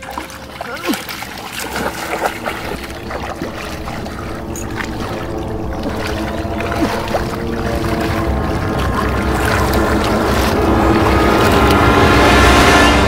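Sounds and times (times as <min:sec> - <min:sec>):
engine-like drone: 0:00.0 - 0:13.0
hands splashing muddy water: 0:00.0 - 0:13.0.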